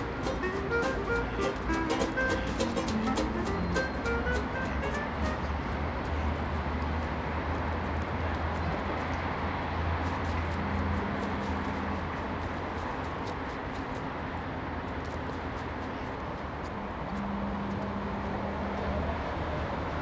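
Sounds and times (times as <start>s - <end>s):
street traffic engine rumble: 0.0s - 20.0s.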